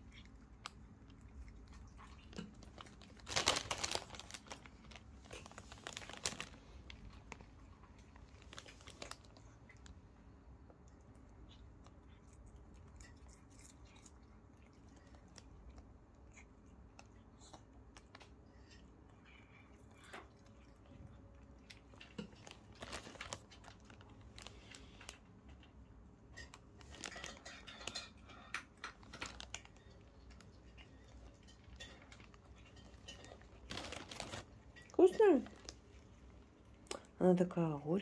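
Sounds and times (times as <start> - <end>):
cat crunching leaves: 0.0 - 10.0, 10.8 - 25.2, 26.3 - 37.6.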